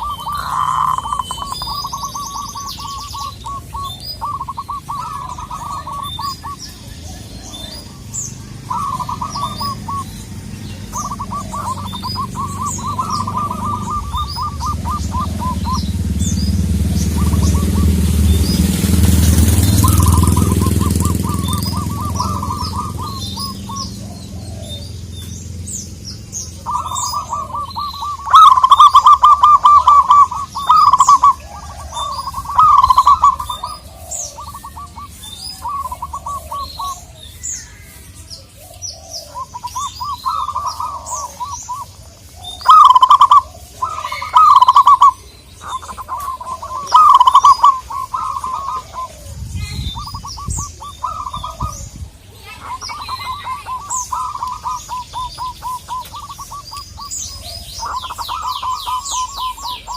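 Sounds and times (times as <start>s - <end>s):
dove trilling coo: 0.0s - 59.9s
small birds chirping: 0.0s - 59.9s.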